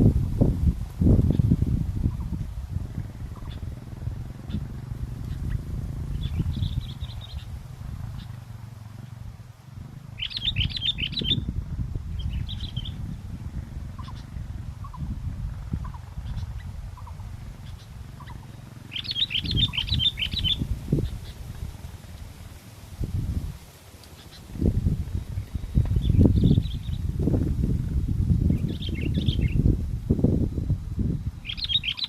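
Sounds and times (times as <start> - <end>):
wind rumble on microphone: 0.0 - 32.0
birds chirping song: 1.1 - 9.2, 9.8 - 22.5, 24.0 - 29.8, 31.4 - 32.0.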